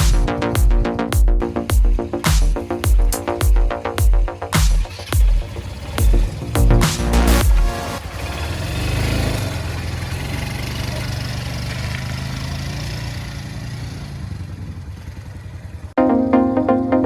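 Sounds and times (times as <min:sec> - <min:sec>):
engine running: 0:00.0 - 0:15.8.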